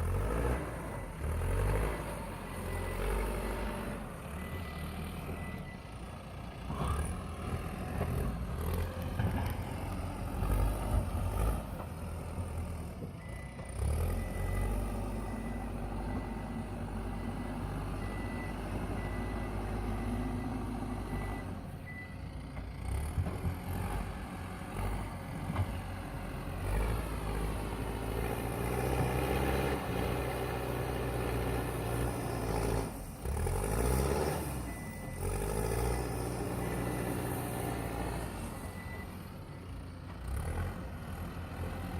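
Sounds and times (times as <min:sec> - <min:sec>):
backhoe diesel engine working: 0:00.0 - 0:41.9.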